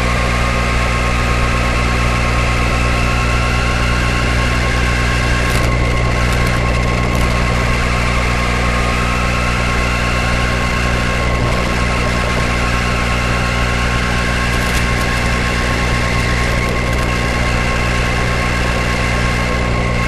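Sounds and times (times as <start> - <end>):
radio-controlled car motor whine: 0.0 - 20.0.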